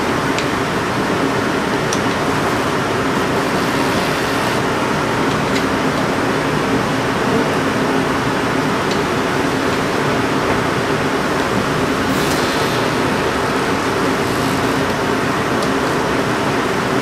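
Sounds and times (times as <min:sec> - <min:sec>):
stitching machine humming: 0:02.3 - 0:16.4.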